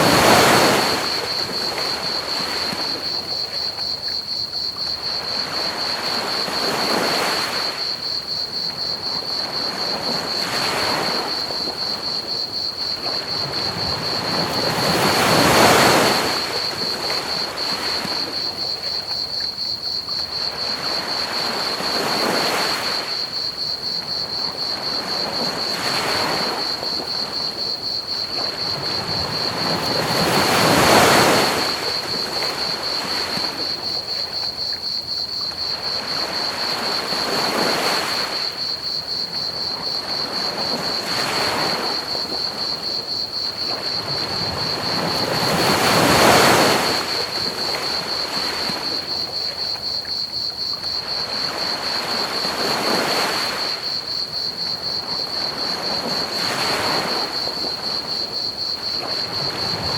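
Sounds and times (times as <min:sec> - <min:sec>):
crickets chirping: 0:00.0 - 0:59.9
ocean waves washing onto beach: 0:00.0 - 0:59.9.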